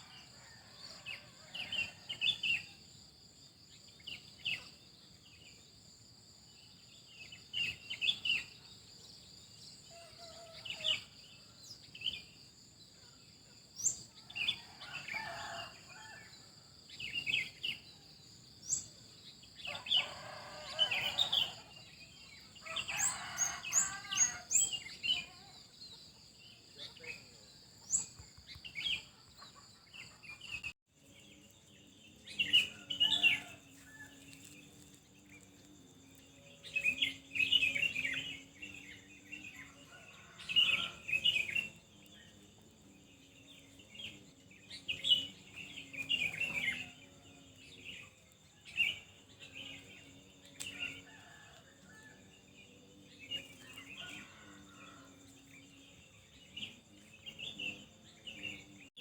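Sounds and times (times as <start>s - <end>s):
high whine of insects: 0.0s - 59.0s
songbirds chirping: 0.0s - 59.0s.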